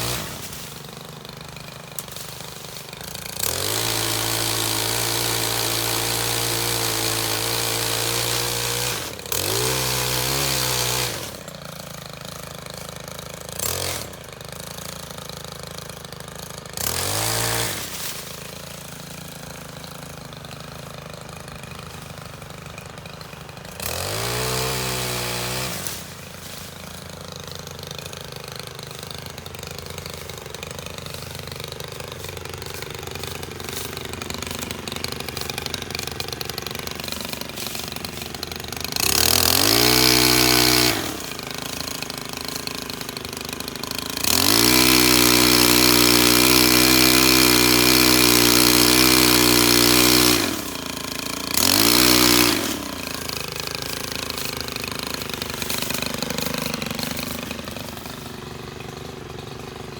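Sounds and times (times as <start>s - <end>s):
small engine idling and revving: 0.0s - 59.9s.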